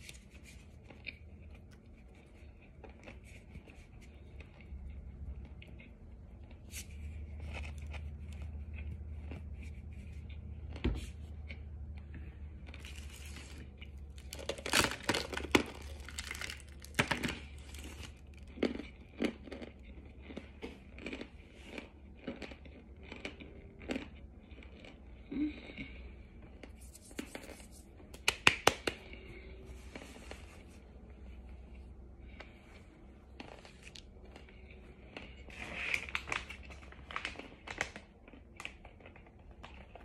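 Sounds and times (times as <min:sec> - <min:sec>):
crunchy food being chewed: 0:00.0 - 0:27.8, 0:28.8 - 0:40.0.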